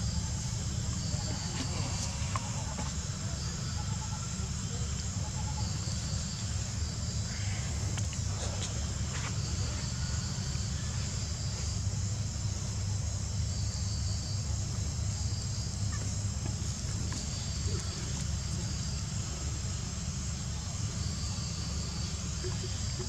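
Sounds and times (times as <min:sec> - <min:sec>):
insect chorus buzzing: 0:00.0 - 0:23.0.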